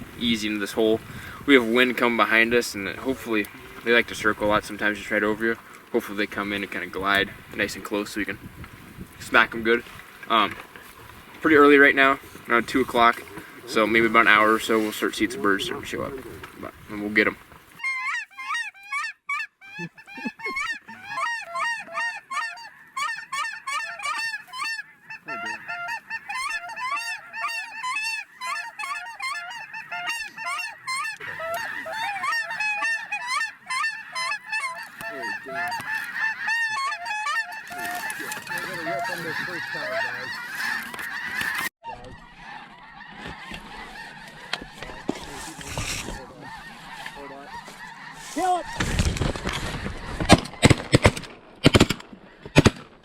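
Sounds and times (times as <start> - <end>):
flock of geese honking: 0.0 - 52.8.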